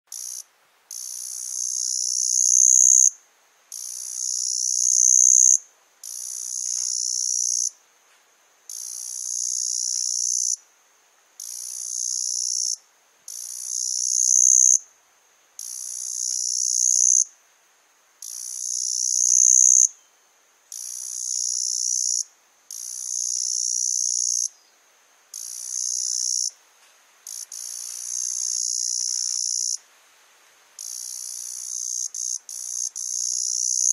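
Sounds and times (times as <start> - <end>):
cicada buzzing: 0.1 - 7.8, 8.7 - 10.6, 11.4 - 14.8, 15.6 - 17.3, 18.2 - 19.9, 20.7 - 24.6, 25.3 - 26.6, 27.2 - 29.8, 30.8 - 33.9.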